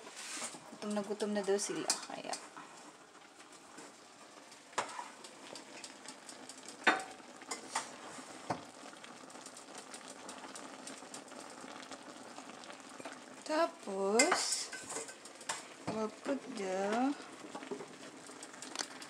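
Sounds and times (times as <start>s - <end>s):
bubbling sizzle in frying pan: 0.0s - 19.0s.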